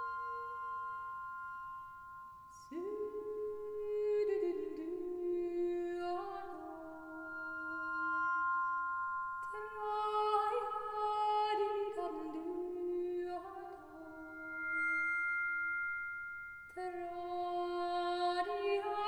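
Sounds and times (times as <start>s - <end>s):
long ringing tones: 0.0s - 19.0s.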